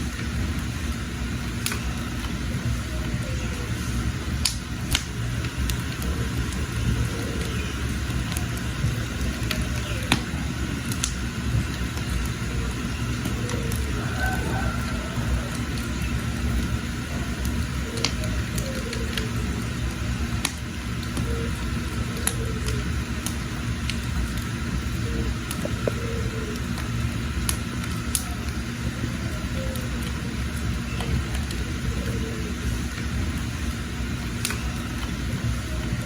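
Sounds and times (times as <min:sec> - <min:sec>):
fire low rumble: 0:00.0 - 0:36.0
wood fire crackling and popping: 0:00.0 - 0:36.0.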